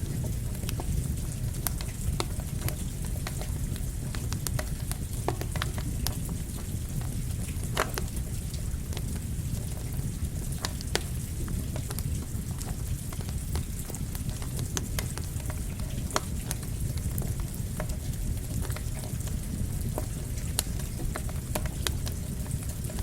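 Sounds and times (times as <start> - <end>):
campfire crackling and popping: 0.0 - 23.0
rain hissing: 0.0 - 23.0.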